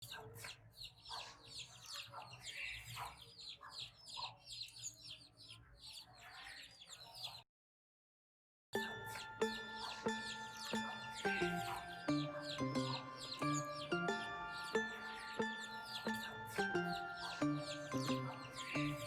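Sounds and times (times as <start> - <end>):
small birds chirping: 0.0 - 7.4, 8.8 - 19.0.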